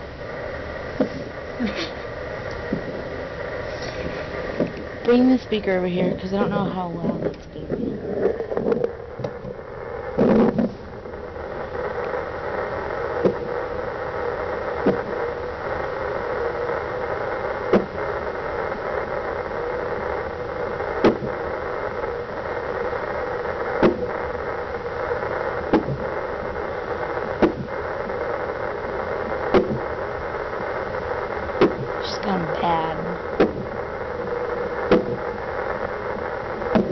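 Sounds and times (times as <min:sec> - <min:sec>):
fetal doppler hiss: 0:00.0 - 0:36.9.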